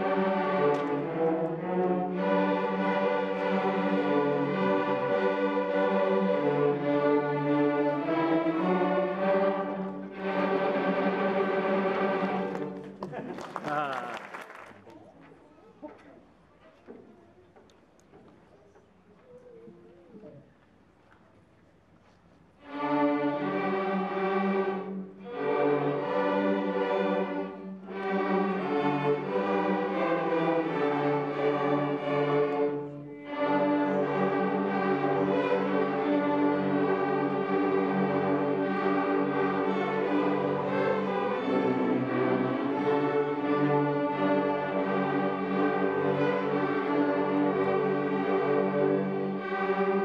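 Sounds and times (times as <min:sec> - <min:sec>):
string orchestra playing: 0:00.0 - 0:13.6, 0:22.5 - 0:50.0.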